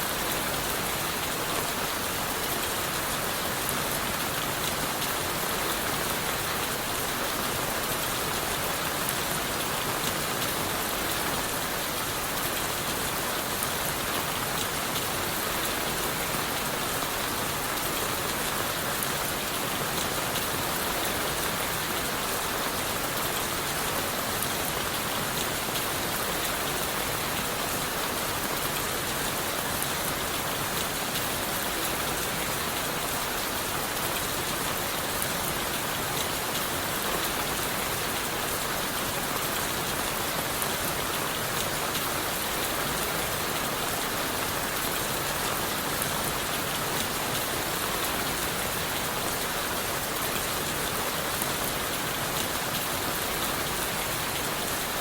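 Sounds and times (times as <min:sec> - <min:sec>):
steady rain on leaves: 0:00.0 - 0:55.0.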